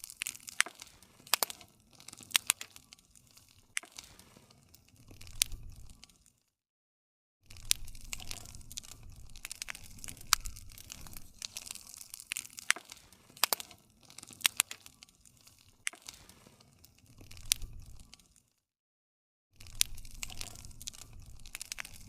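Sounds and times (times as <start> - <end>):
campfire wood crackling and popping: 0.0 - 6.4, 7.5 - 18.5, 19.6 - 22.0
hiss and rumble of flame: 0.1 - 6.2, 7.5 - 18.2, 19.6 - 22.0.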